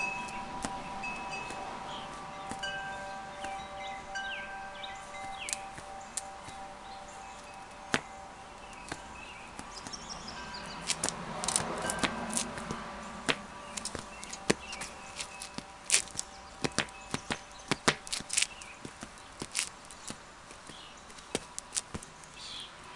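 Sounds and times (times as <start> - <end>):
shoes scraping on concrete: 0.0 - 3.8, 4.5 - 22.2
shoes tapping on concrete: 0.0 - 3.8, 4.6 - 22.3.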